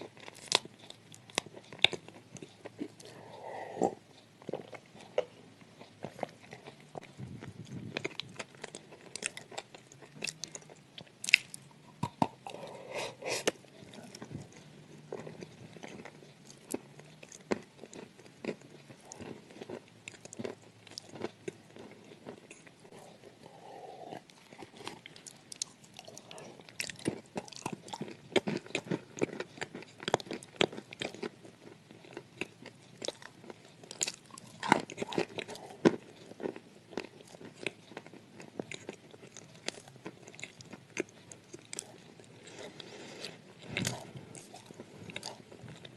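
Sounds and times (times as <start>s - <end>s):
sand clay being chewed: 0.0s - 45.9s.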